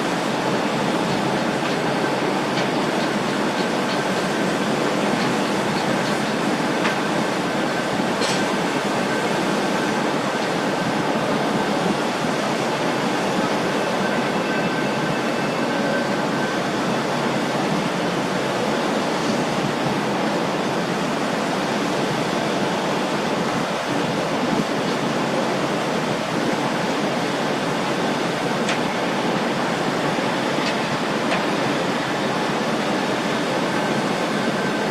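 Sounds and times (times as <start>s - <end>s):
wind and water rushing: 0.0s - 34.9s.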